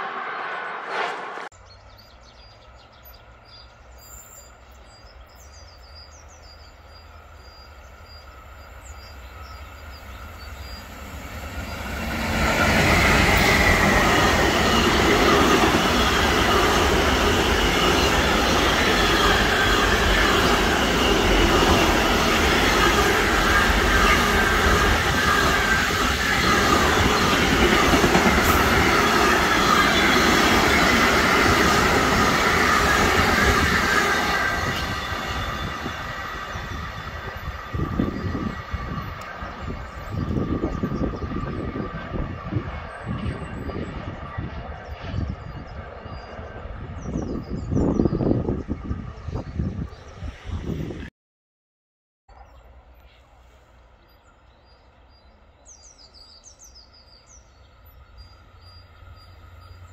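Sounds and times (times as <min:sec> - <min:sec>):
train high whine: 0:00.0 - 0:51.1, 0:52.3 - 0:59.9
train wheels rumbling on rails: 0:00.0 - 0:51.1.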